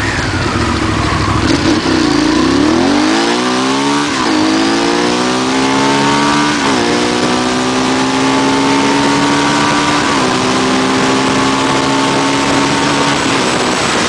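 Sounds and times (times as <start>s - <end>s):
motorcycle engine accelerating: 0.0s - 14.0s
wind rushing: 0.2s - 14.0s.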